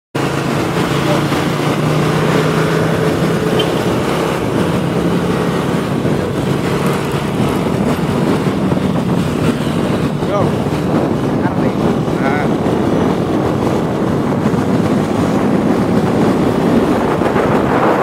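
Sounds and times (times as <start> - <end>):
road and wind noise: 0.1 - 18.0
engine running: 0.2 - 18.0.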